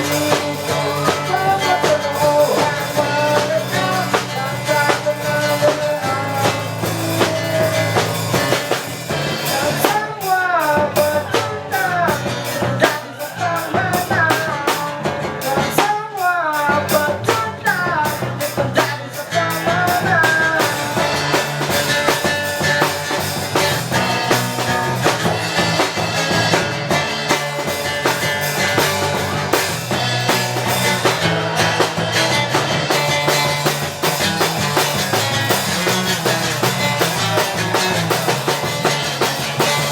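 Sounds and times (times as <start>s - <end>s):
fast melodic lead line: 0.0s - 15.8s, 16.7s - 39.9s
drum kit beat: 0.0s - 39.9s
guitars: 0.0s - 39.9s.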